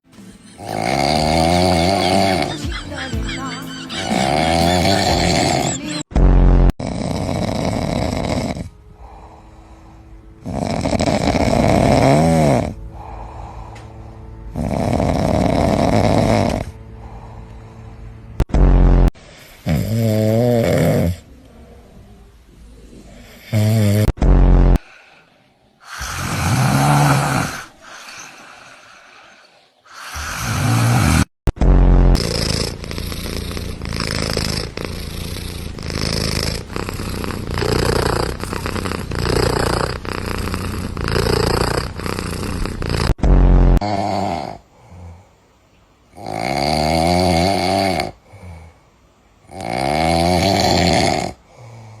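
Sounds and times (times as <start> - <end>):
cats snoring: 0.1 - 6.1, 6.8 - 18.5, 19.2 - 31.3, 32.1 - 43.2, 43.8 - 45.4, 46.1 - 48.8, 49.4 - 52.0.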